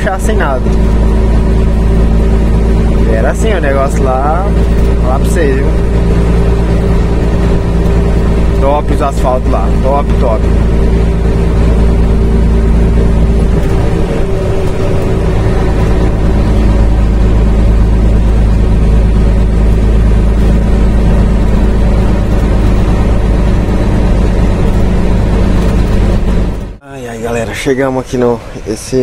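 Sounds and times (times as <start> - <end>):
road noise: 0.0 - 29.0
truck diesel engine drone: 0.0 - 29.0.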